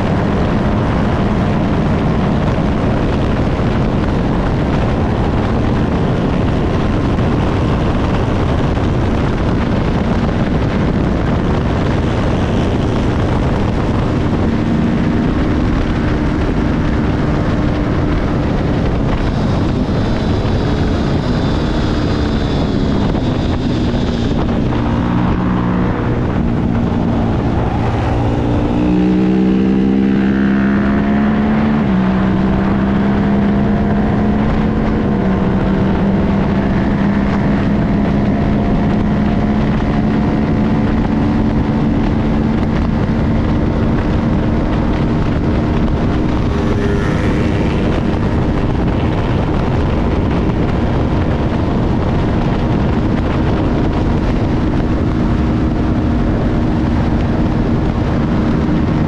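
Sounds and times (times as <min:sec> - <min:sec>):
motorcycle engine revving high: 0:00.0 - 0:59.0
wind rush on microphone: 0:00.0 - 0:59.0.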